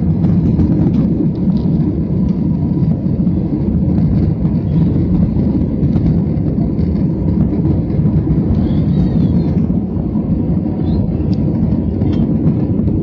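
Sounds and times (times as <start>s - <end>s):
faint steady whine: 0.0s - 13.0s
jet engines rumbling in cabin: 0.0s - 13.0s.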